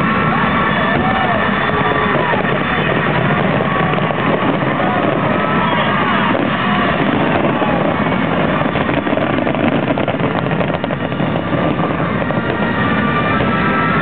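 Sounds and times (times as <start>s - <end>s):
fireworks bursts rumbling: 0.0s - 14.0s
fireworks crackling: 0.0s - 14.0s.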